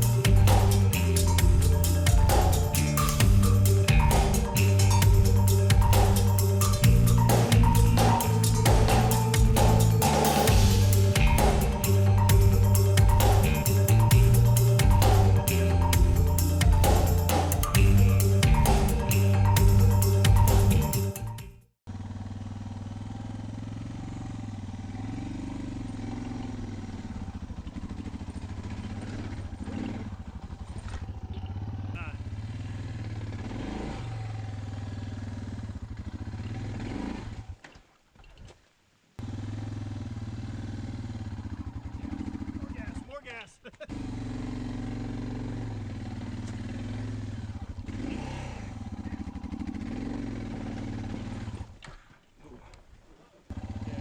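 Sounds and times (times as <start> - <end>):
motorcycle engine at low revs: 0.0 - 20.8, 21.8 - 37.8, 39.2 - 52.1, 53.5 - 54.0.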